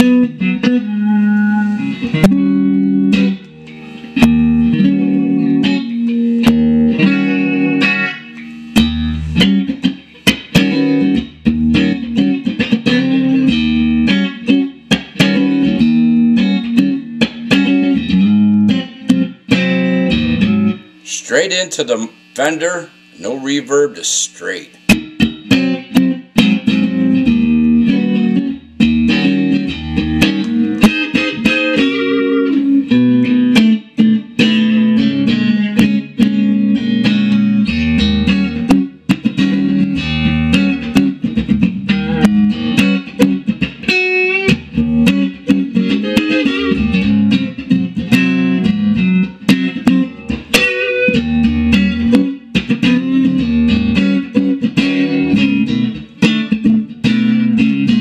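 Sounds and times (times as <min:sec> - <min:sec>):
clean electric guitar playing: 0:00.0 - 0:58.0.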